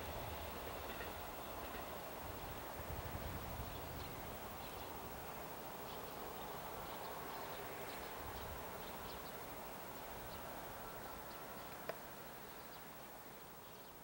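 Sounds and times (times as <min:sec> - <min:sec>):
distant electric train rumble: 0:00.0 - 0:13.6.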